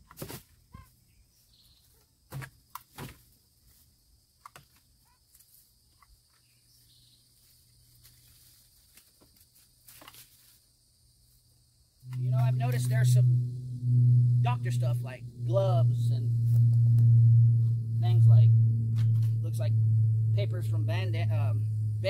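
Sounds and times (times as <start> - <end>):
insects droning: 1.0 - 22.0.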